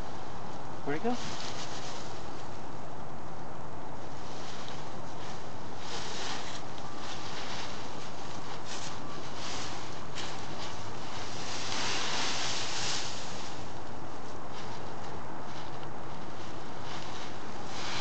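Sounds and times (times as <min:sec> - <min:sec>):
dry leaves rustling: 0:00.0 - 0:18.0.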